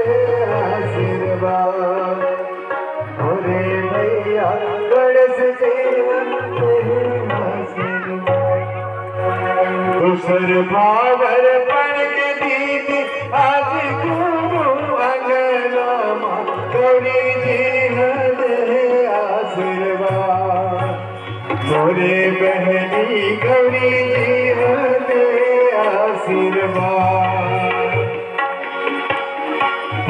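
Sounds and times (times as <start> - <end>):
pitch-bending melodic line: 0.0 - 30.0.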